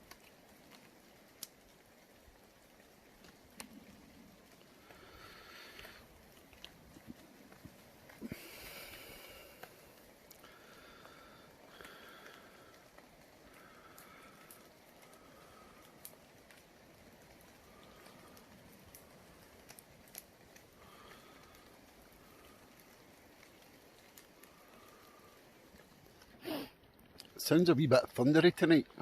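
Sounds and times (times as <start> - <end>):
light rain patter: 0.0 - 29.0.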